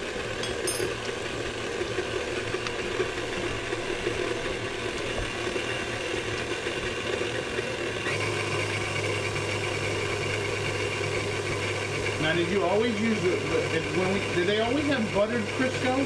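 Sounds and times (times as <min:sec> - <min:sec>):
stand mixer motor humming: 0:00.0 - 0:16.0.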